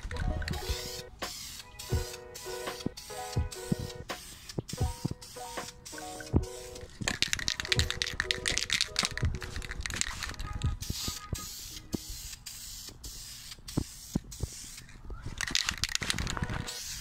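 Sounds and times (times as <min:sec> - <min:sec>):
spray paint can hissing: 0:00.0 - 0:17.0.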